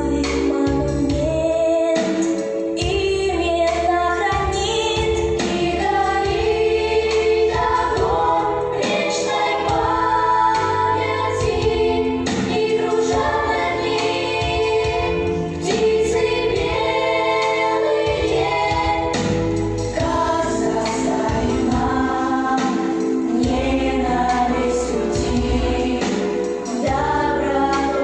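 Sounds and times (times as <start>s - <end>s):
children's choir singing: 4.1s - 28.0s.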